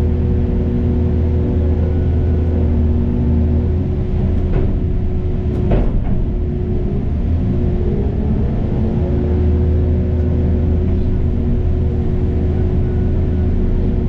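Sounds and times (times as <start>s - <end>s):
heavy machine engine running: 0.0s - 14.0s.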